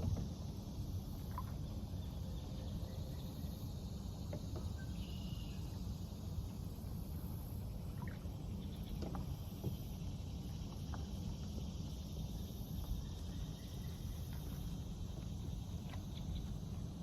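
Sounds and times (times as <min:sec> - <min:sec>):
faint insects: 0:00.0 - 0:17.0.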